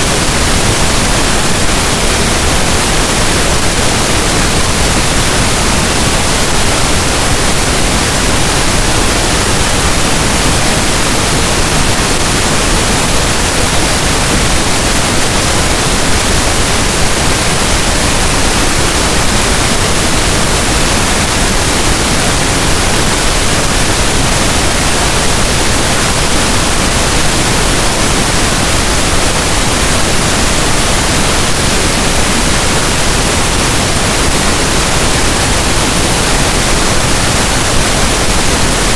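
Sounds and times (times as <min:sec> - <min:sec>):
synthesized pink noise hiss: 0:00.0 - 0:38.9.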